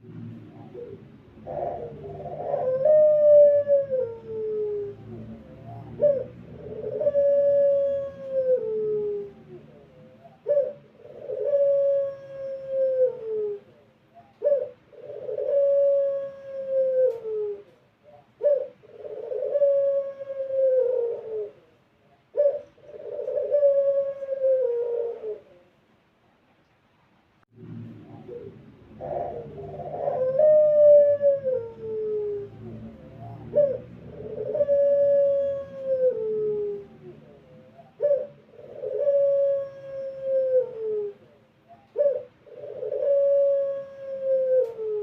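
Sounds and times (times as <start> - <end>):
dove cooing: 0.0 - 25.8, 27.6 - 45.0.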